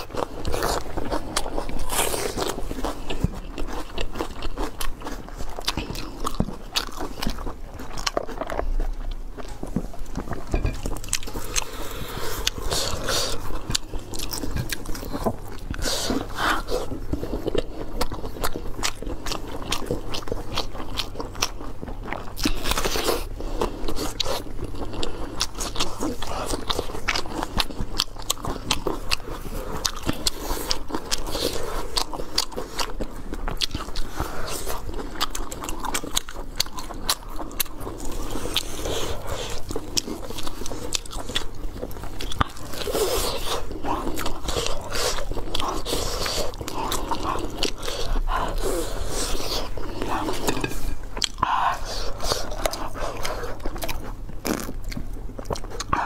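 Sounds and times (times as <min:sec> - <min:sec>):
people chewing crunchy food: 0:00.0 - 0:56.0.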